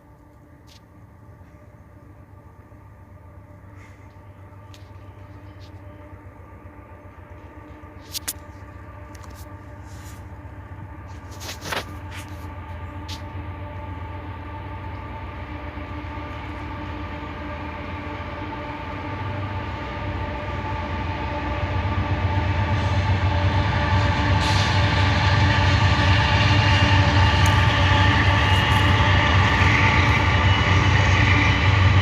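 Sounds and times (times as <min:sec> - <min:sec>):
rail and wheel noise: 0:00.0 - 0:32.0
train approaching: 0:00.0 - 0:32.0.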